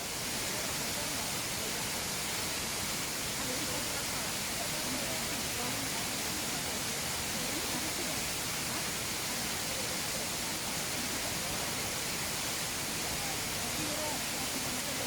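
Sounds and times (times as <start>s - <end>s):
faint voices: 0.0s - 15.0s
waterfall rushing: 0.0s - 15.0s.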